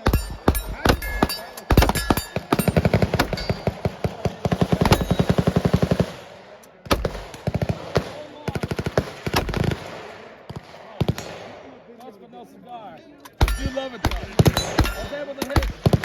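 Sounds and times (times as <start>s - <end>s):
single gunshots: 0.0s - 6.2s, 6.8s - 11.8s, 13.4s - 16.0s
automatic gunfire: 0.0s - 6.3s, 6.9s - 11.8s, 13.4s - 16.0s.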